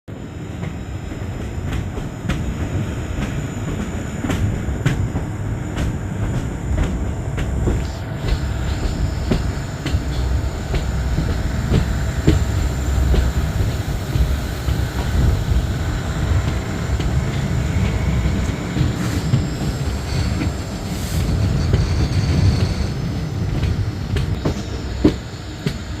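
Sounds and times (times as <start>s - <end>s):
train rumble on board: 0.1s - 26.0s.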